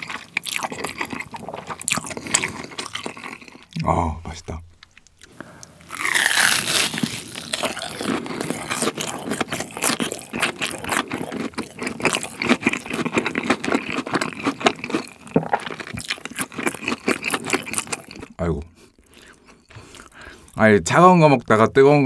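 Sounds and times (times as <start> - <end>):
crunchy chewing of fried food: 0.0 - 3.8, 4.8 - 20.6.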